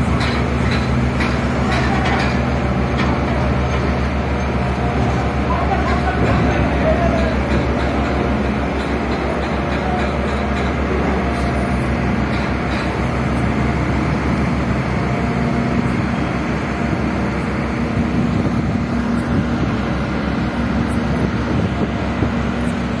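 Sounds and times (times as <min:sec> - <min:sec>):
diesel engines droning: 0:00.0 - 0:23.0.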